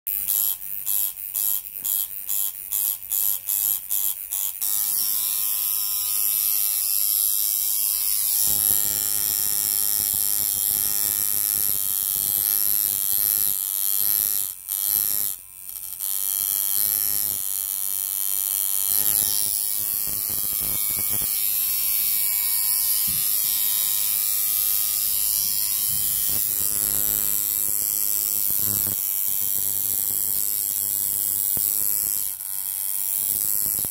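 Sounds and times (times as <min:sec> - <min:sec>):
tattoo machine buzzing: 0:00.1 - 0:33.9.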